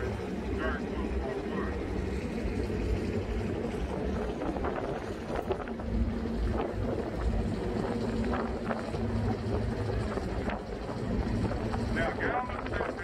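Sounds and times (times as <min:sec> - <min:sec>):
road noise: 0:00.0 - 0:13.0
vehicle engine humming: 0:00.0 - 0:13.0
wind buffeting microphone: 0:00.0 - 0:13.0.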